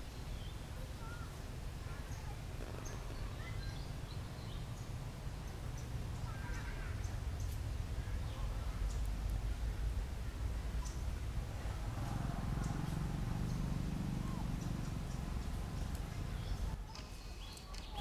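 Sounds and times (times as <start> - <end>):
wind rumble on microphone: 0.0 - 16.9
birds chirping: 0.0 - 18.0.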